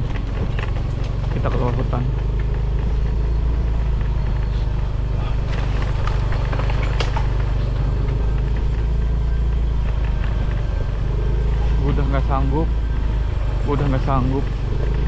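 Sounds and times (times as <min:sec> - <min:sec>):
motorcycle engine running: 0:00.0 - 0:15.0
sharp rattles: 0:00.0 - 0:15.0.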